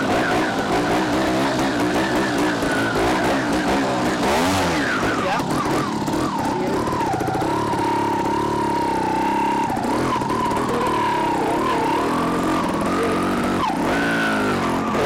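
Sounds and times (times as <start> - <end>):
two-stroke engine revving: 0.0 - 15.0.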